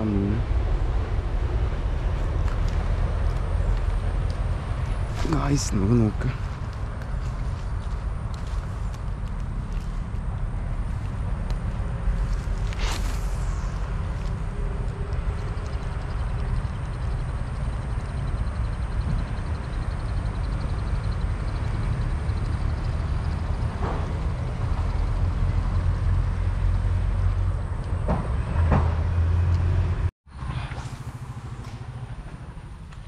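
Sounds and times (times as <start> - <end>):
outdoor background: 0.0 - 33.0.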